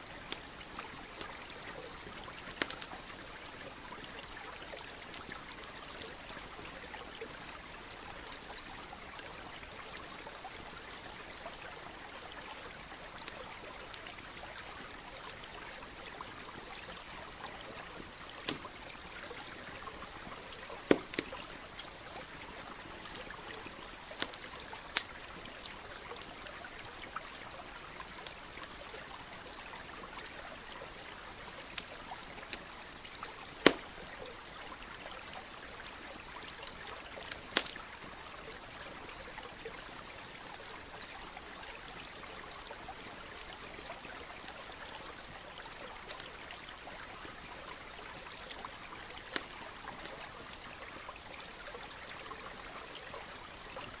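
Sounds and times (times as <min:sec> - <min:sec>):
campfire crackling and popping: 0:00.0 - 0:54.0
flowing stream: 0:00.0 - 0:54.0.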